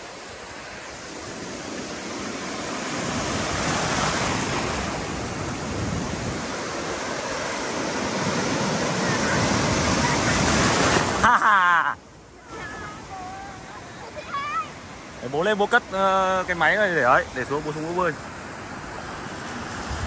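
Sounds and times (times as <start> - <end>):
sea surf breaking: 0.0 - 20.0.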